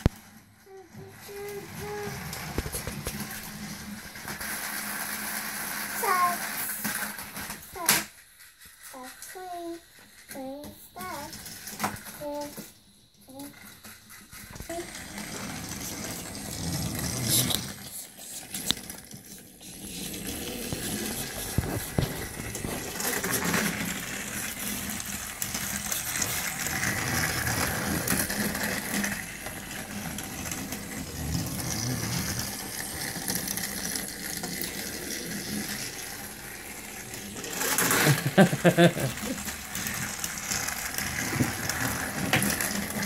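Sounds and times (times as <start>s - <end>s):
toy train motor whirring: 0.0s - 43.0s.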